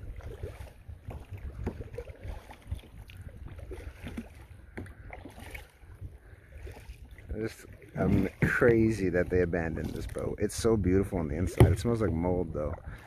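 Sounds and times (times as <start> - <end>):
paddle splashes and drips: 0.0 - 13.0
wind rumble on microphone: 0.0 - 13.0.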